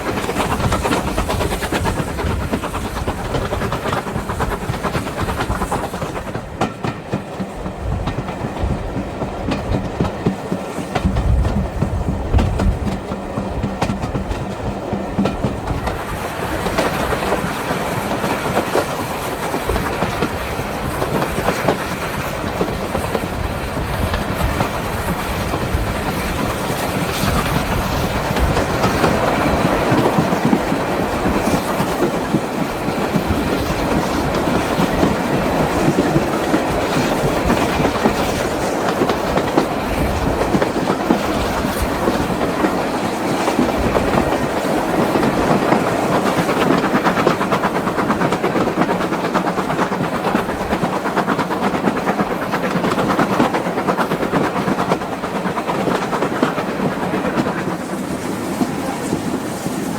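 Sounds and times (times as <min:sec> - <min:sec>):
train wheels clicking over rail joints: 0:00.0 - 0:59.9.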